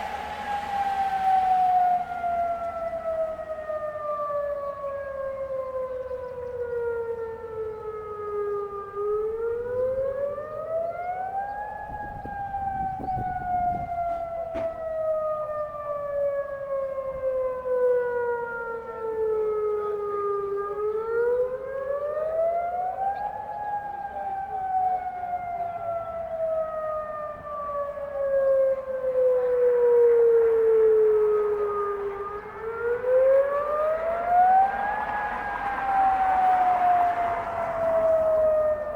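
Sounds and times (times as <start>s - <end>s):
wailing warning siren: 0.0s - 38.9s.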